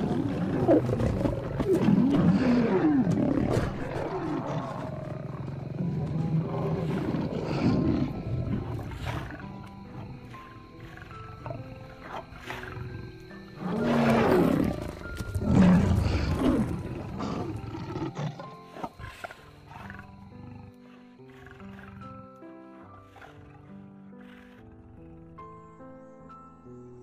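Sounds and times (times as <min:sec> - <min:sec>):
lions growling and roaring: 0:00.0 - 0:25.6
background music with held notes: 0:00.0 - 0:27.0.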